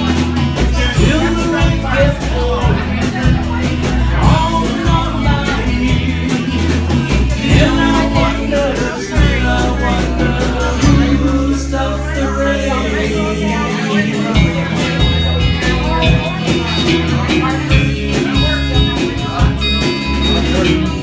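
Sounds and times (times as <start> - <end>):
bass notes: 0.0 - 21.0
drum kit beat: 0.0 - 21.0
strummed acoustic guitars: 0.0 - 21.0
voices singing: 0.0 - 21.0.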